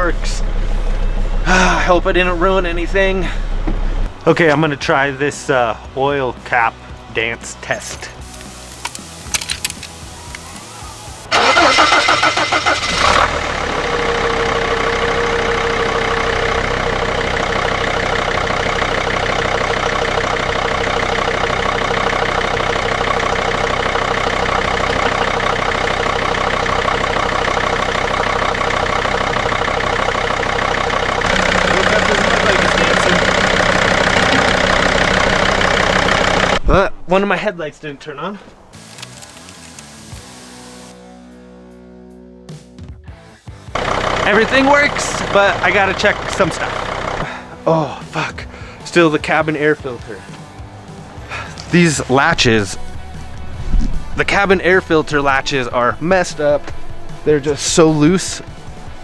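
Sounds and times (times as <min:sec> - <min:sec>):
diesel engine cranking and idling: 0:00.0 - 0:05.7, 0:06.4 - 0:41.0, 0:43.6 - 0:59.0.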